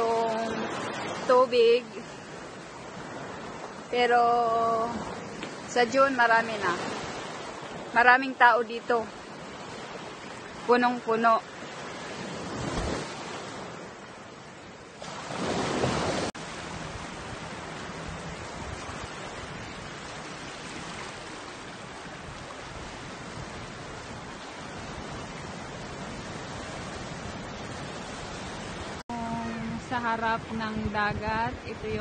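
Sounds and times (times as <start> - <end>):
sea surf washing over rocks: 0.0 - 29.8.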